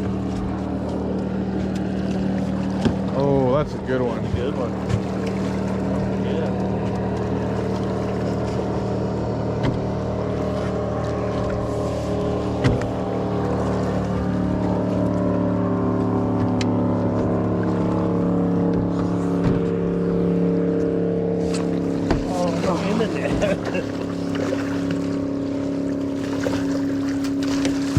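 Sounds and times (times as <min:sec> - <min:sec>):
boat motor running: 0:00.0 - 0:27.9.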